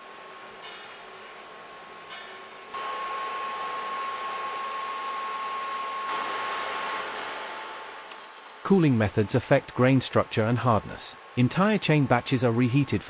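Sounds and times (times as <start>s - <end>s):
steady high hum: 0.0s - 13.0s.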